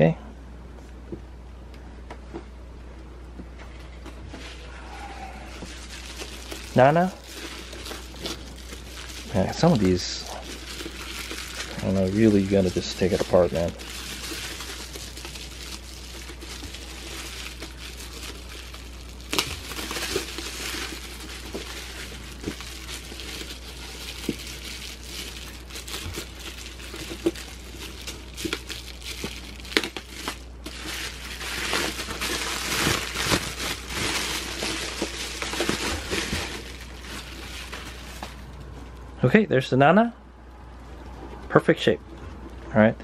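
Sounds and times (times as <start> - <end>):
bubble wrap crinkling: 4.4 - 39.0.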